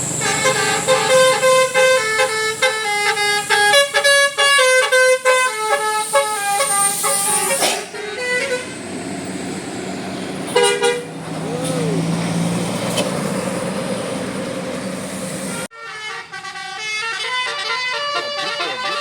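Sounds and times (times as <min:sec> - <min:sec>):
musical bus air horn: 0:00.0 - 0:08.9, 0:10.4 - 0:13.0, 0:15.2 - 0:19.0.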